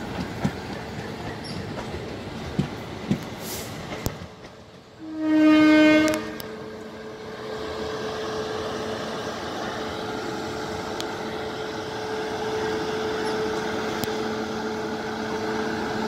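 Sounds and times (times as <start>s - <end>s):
locomotive machinery humming and whining: 0.0s - 16.0s.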